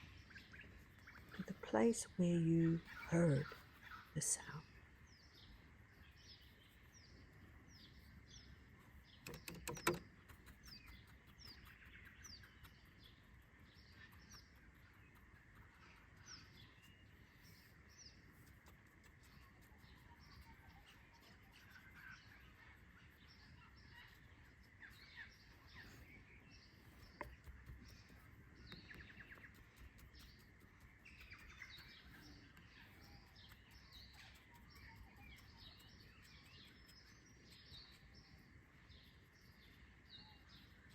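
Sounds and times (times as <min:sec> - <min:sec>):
faint birds chirping: 0:00.0 - 0:40.9.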